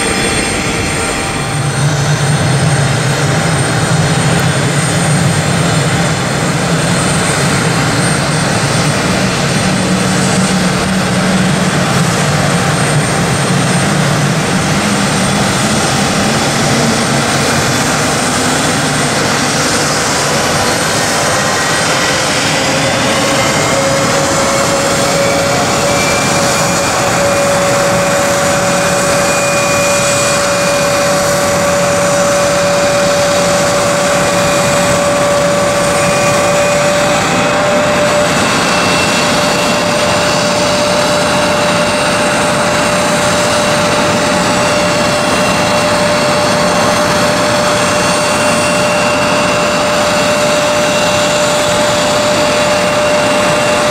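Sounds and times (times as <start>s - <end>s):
loud steady jet noise: 0.0s - 53.9s
turbofan whine rising in pitch: 0.0s - 53.9s.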